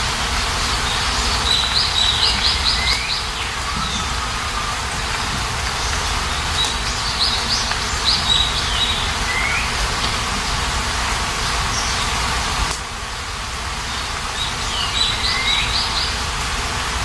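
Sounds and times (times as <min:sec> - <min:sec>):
rain hiss: 0:00.0 - 0:17.0
small birds chirping: 0:00.4 - 0:10.6, 0:11.4 - 0:12.2, 0:13.8 - 0:16.4.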